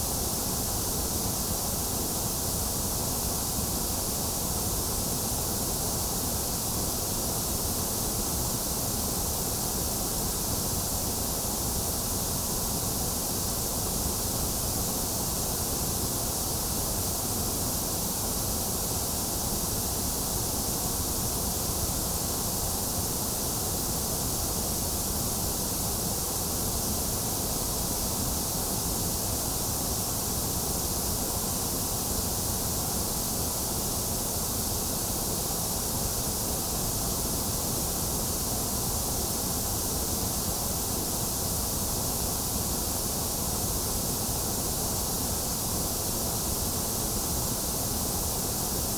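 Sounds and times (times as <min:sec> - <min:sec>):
white noise hiss: 0:00.0 - 0:48.9.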